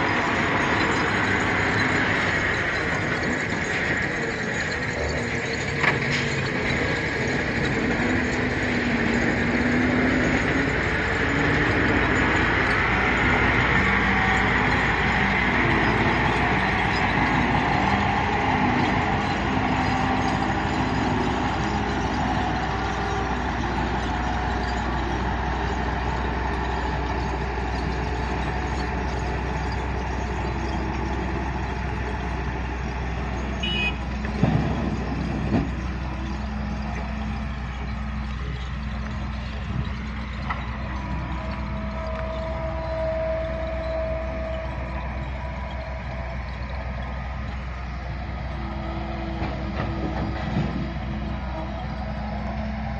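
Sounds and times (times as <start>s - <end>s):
diesel machinery running: 0.0s - 52.9s.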